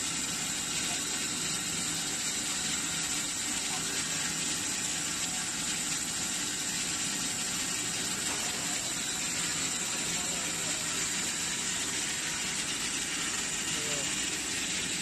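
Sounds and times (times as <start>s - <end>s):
band saw running: 0.0s - 15.0s.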